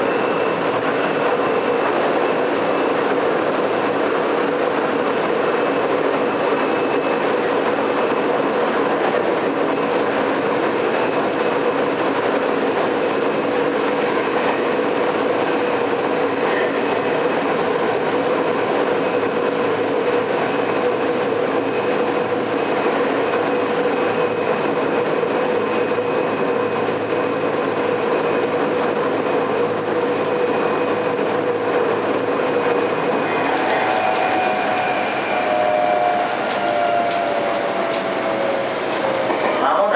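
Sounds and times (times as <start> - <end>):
subway train wheels rumbling: 0.0 - 39.9.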